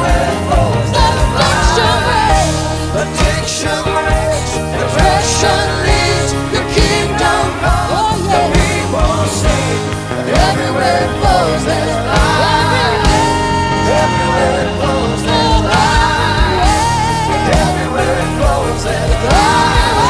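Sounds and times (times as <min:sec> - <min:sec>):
sustained keys: 0:00.0 - 0:20.0
woman singing: 0:00.0 - 0:20.0
worship band playing slow song: 0:00.0 - 0:20.0.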